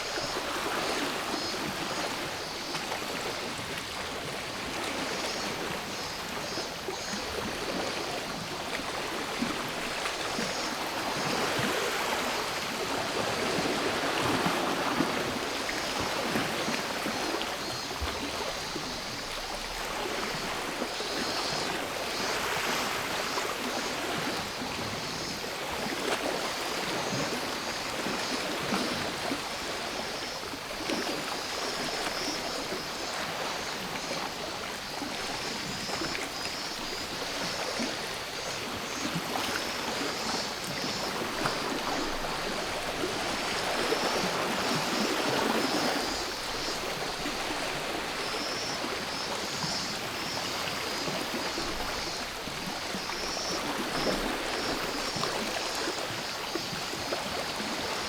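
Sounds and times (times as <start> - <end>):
cicada chorus: 0.0 - 58.0
sea waves washing on shore: 0.0 - 58.0.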